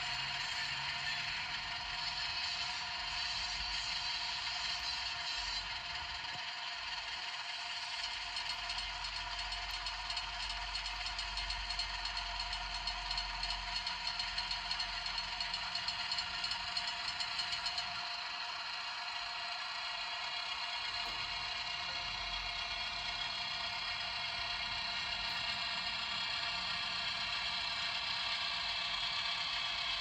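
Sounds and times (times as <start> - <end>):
model train motor whine: 0.0 - 30.0.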